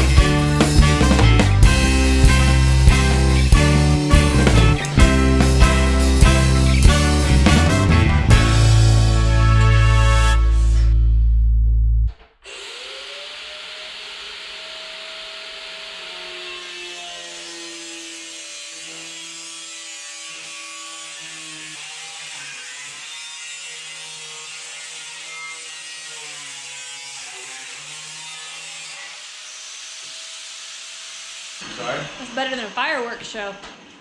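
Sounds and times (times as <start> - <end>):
electric cutting tool running: 0.0 - 9.2, 12.4 - 33.8.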